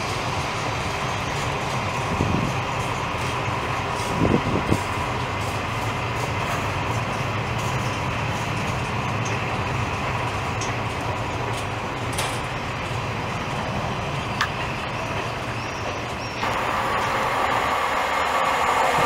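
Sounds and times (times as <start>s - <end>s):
faint train whine: 0.0s - 19.0s
train knocks: 0.0s - 19.0s
train wheels rumbling on rails: 0.0s - 19.0s.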